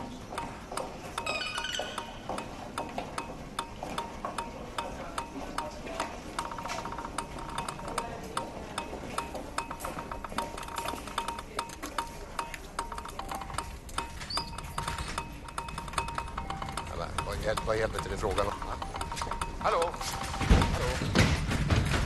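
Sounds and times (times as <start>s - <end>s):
rattle of clicks: 0.4s - 21.7s
rhythmic electronic music: 1.2s - 21.3s.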